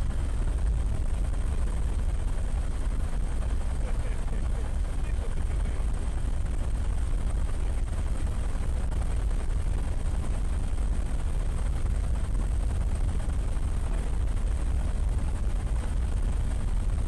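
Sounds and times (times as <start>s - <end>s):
aircraft cabin rumble: 0.0s - 17.0s
faint high whine: 0.0s - 17.0s.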